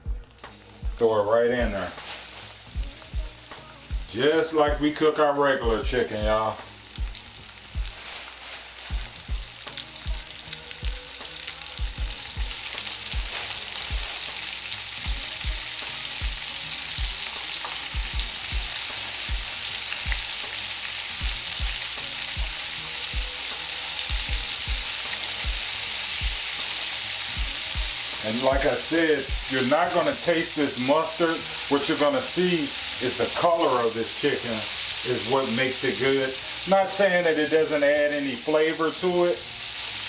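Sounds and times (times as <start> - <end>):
chicken frying in oil: 0.4 - 40.0.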